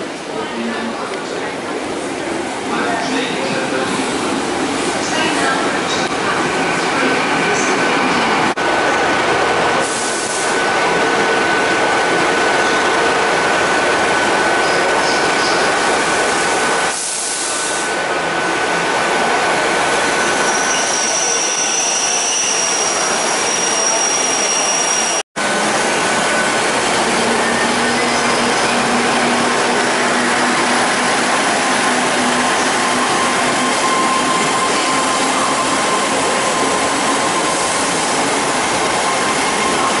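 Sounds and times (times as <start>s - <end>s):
trains rumbling past: 0.0s - 40.0s.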